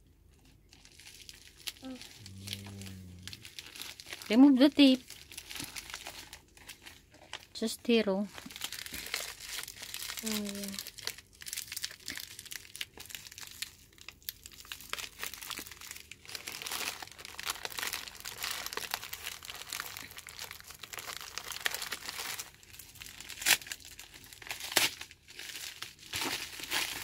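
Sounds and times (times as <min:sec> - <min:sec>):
plastic wrapping crinkling: 0:00.3 - 0:27.0.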